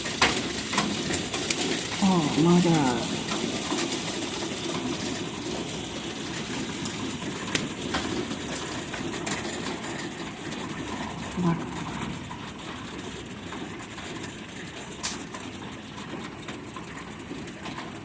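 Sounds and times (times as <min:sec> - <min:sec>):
hail on car roof: 0:00.0 - 0:18.0
hailstones ticking on windshield: 0:00.0 - 0:18.0.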